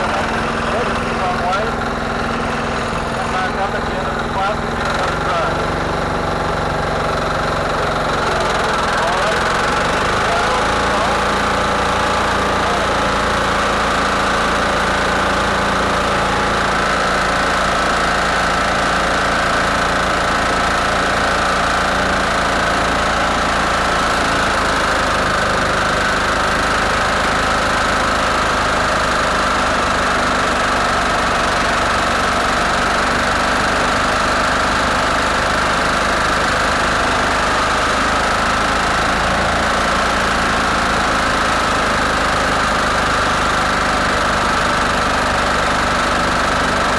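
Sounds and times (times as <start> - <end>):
garden tractor engine running: 0.0 - 46.9.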